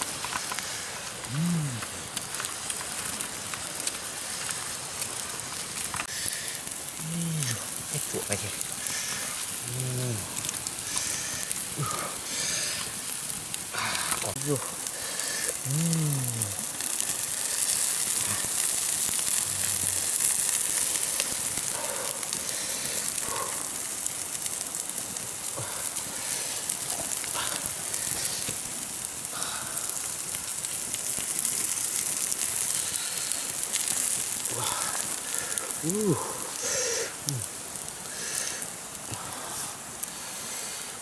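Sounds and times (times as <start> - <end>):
wood fire crackling and hissing: 0.0 - 41.0.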